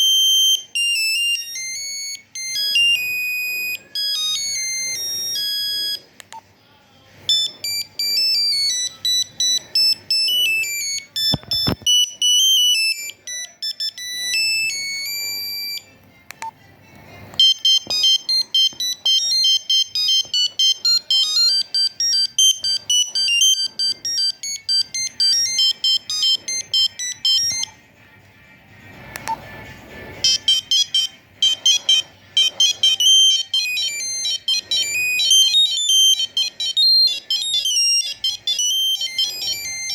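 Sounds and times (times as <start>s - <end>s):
beeping phone ringtone melodies: 0.0s - 6.2s, 7.3s - 16.6s, 17.3s - 27.8s, 29.3s - 39.9s.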